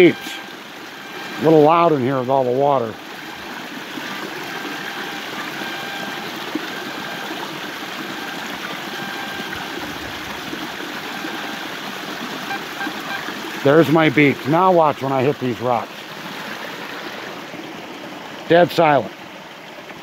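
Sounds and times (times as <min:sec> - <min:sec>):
waterfall splashing over rocks: 0:00.0 - 0:20.0.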